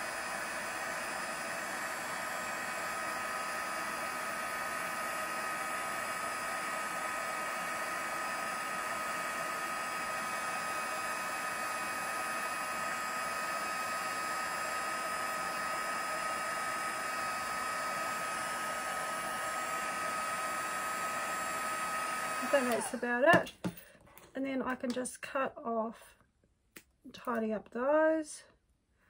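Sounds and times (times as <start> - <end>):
heat gun blowing air: 0.0 - 23.4
heat gun whine: 0.0 - 23.5.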